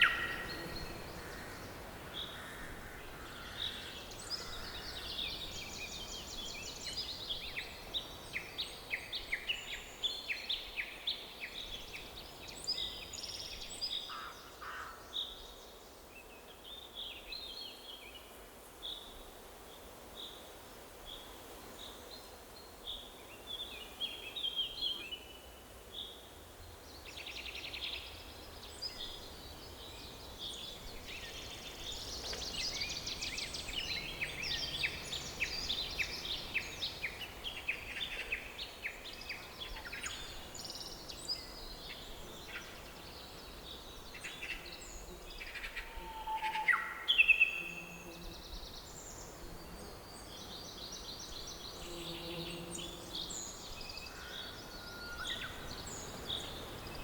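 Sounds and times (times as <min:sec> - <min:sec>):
songbirds chirping and trilling: 0:00.0 - 0:18.2, 0:21.9 - 0:57.0
faint background hiss: 0:00.0 - 0:57.0.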